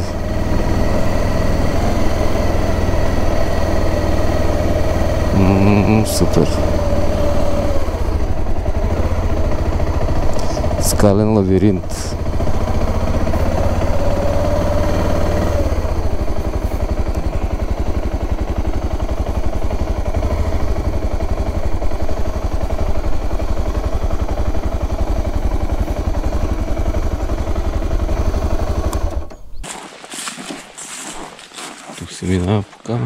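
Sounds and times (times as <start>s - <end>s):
motorcycle engine running: 0.0s - 32.8s.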